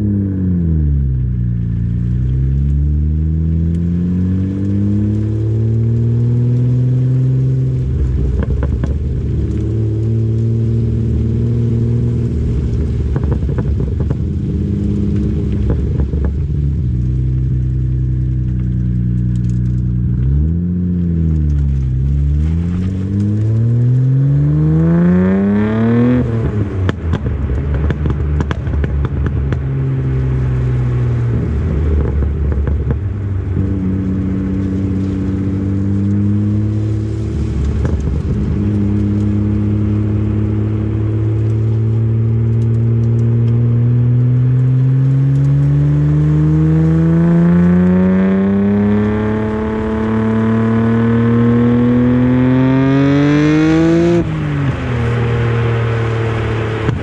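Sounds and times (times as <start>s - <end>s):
car engine revving through gears: 0.0s - 28.8s, 29.4s - 57.0s.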